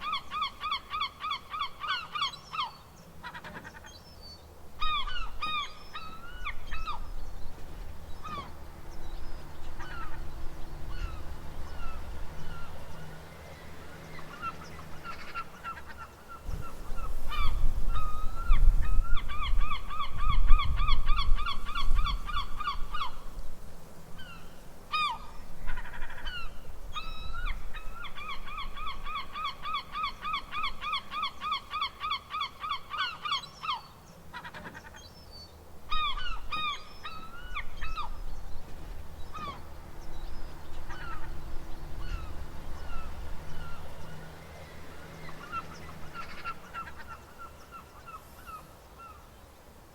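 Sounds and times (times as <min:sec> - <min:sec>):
seagulls calling: 0:00.0 - 0:23.4, 0:24.2 - 0:49.3.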